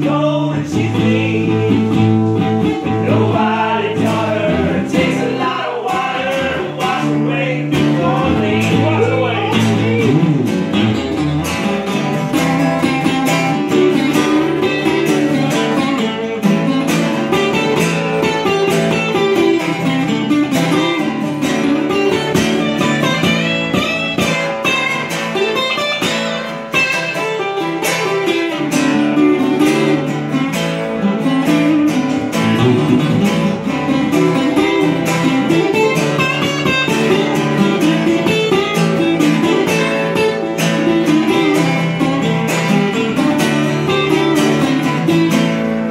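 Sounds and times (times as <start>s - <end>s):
acoustic guitars playing: 0.0s - 45.9s.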